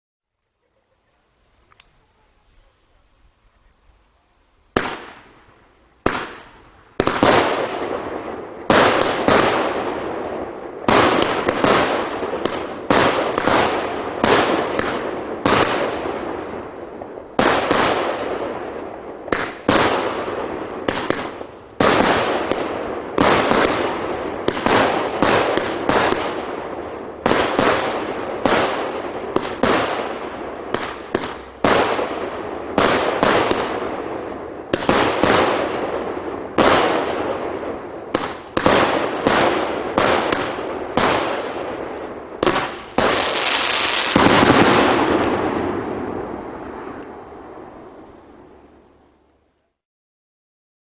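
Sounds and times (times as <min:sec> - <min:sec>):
firework shots: 0:04.7 - 0:48.5.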